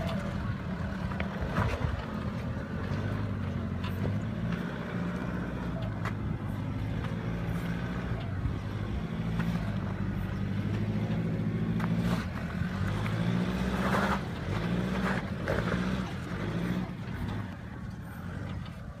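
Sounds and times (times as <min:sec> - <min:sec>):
diesel engine pulling uphill: 0:00.0 - 0:19.0.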